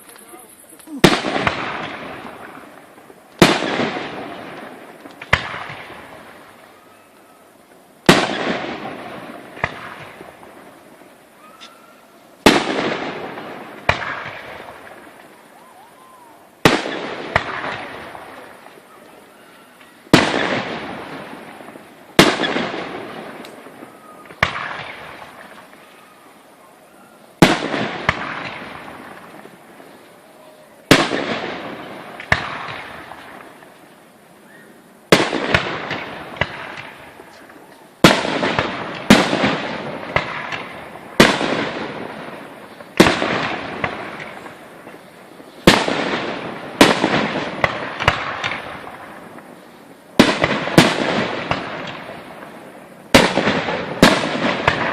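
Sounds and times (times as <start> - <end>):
fireworks bangs and crackle: 0.0 - 54.9.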